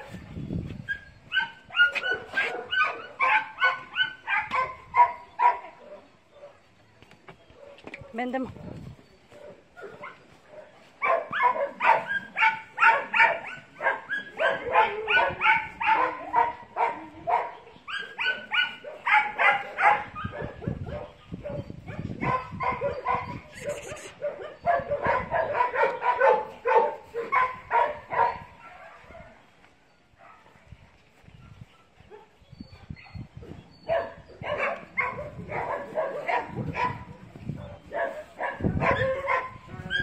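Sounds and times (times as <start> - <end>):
dog barking: 1.3 - 6.6, 7.6 - 29.4, 30.2 - 30.7, 31.3 - 40.0.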